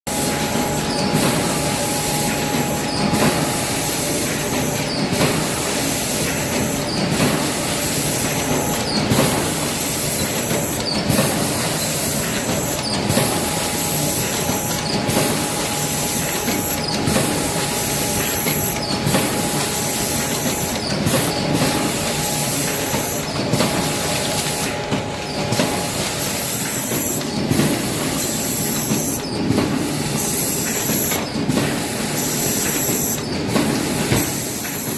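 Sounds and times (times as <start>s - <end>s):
packaging machine clattering: 0.2s - 34.9s.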